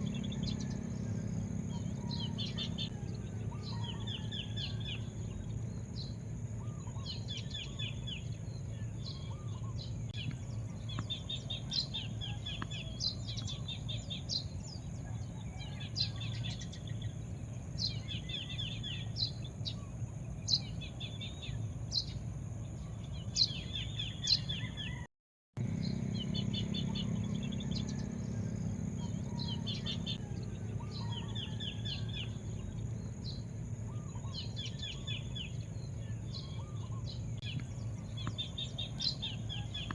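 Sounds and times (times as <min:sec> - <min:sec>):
steady low rumble: 0:00.0 - 0:23.2, 0:25.6 - 0:39.9
songbirds chirping and trilling: 0:00.0 - 0:39.9.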